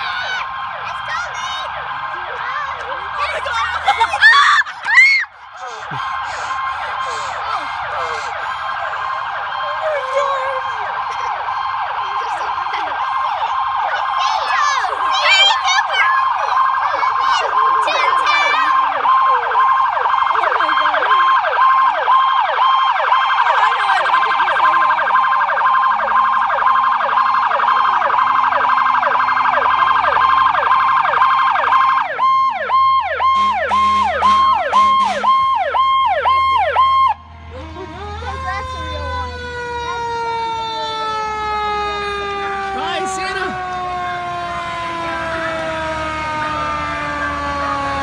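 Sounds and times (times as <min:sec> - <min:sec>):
fast warbling siren: 0:00.0 - 0:48.0
low falling siren tone: 0:00.0 - 0:48.0
pulsing high-low siren: 0:00.0 - 0:48.0.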